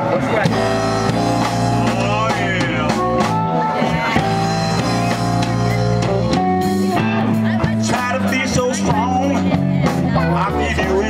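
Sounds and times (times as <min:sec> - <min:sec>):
bass line: 0:00.0 - 0:11.0
drum kit: 0:00.0 - 0:11.0
electric guitar: 0:00.0 - 0:11.0.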